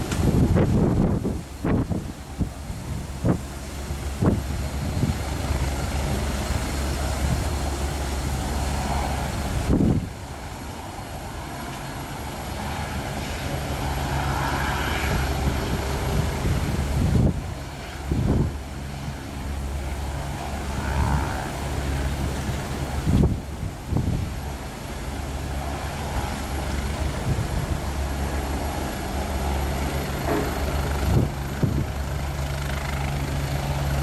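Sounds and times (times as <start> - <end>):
helicopter turbine and rotor drone: 0.0 - 34.0.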